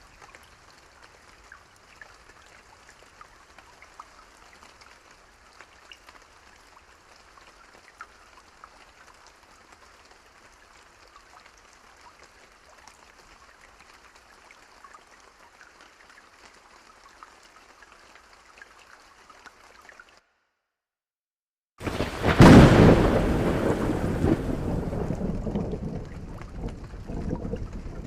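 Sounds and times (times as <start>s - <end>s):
light rain pattering: 0.0s - 20.3s, 21.8s - 28.0s.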